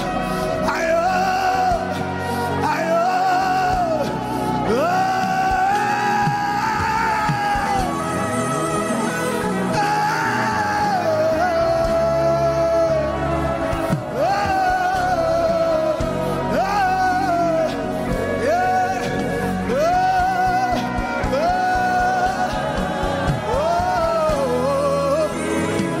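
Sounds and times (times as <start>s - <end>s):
drums: 0.0s - 26.0s
keyboard chords: 0.0s - 26.0s
person singing gospel: 0.0s - 26.0s.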